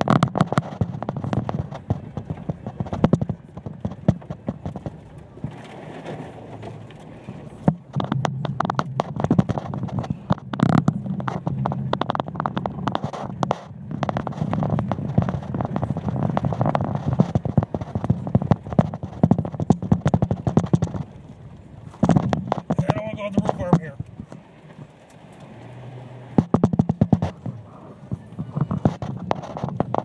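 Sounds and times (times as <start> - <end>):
low engine drone: 0.0 - 30.0.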